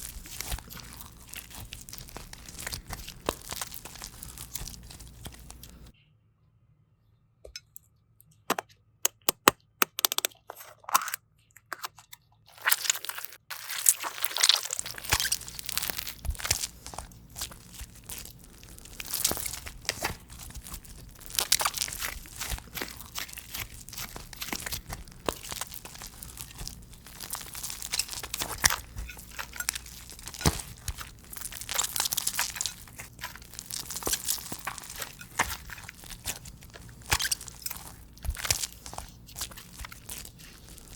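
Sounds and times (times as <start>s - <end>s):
crunchy slime crackling: 0.0s - 5.9s, 12.5s - 40.9s.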